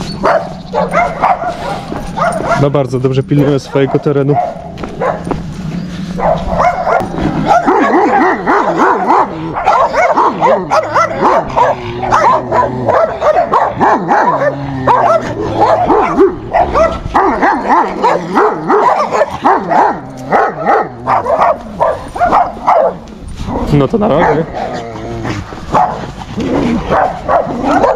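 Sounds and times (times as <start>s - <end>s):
dog barking and yipping: 0.0s - 2.8s, 3.4s - 24.8s, 25.6s - 27.9s.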